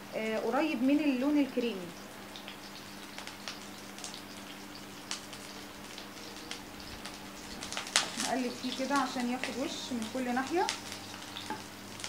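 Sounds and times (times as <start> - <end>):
onions crackling in oil: 0.0 - 12.0.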